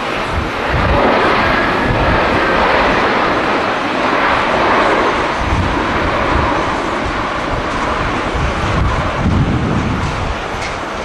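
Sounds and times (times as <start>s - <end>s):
jet engines running loud: 0.0s - 11.0s
wind buffeting the microphone: 0.0s - 11.0s.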